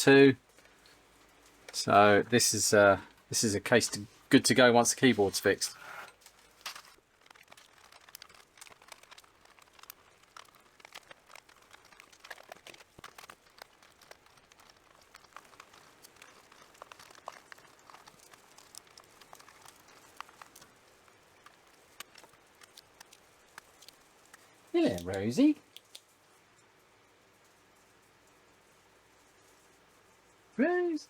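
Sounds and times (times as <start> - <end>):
light clicks and crinkling: 0.0 - 30.6.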